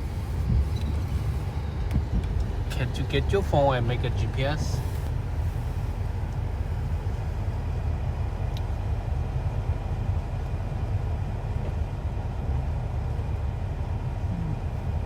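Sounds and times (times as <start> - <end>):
car engine idling in cabin: 0.0 - 15.0.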